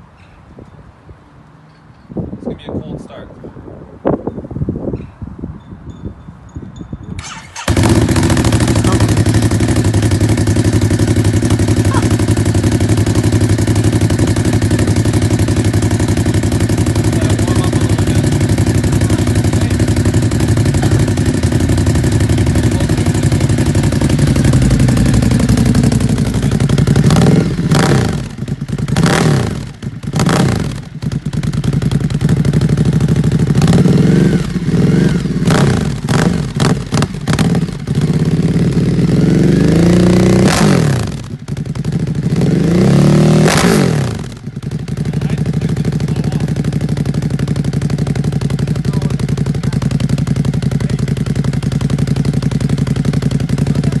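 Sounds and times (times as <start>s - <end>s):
motorcycle engine idling and revving: 6.5s - 54.0s.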